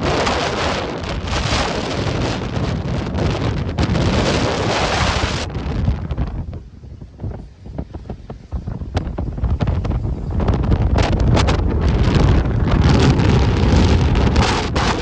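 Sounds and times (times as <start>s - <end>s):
rough sea surf: 0.0s - 15.0s
wind buffeting microphone: 0.0s - 15.0s.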